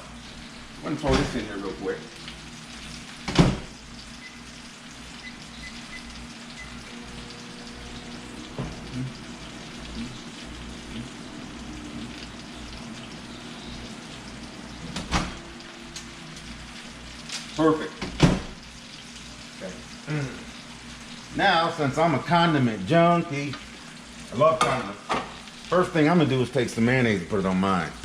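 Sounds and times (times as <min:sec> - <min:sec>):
food sizzling: 0:00.0 - 0:28.0
microwave humming: 0:00.0 - 0:28.0.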